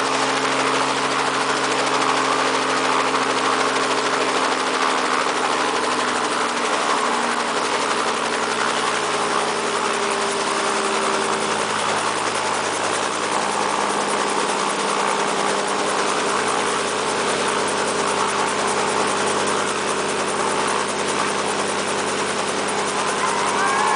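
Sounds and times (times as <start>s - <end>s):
helicopter engine and rotor: 0.0s - 23.9s.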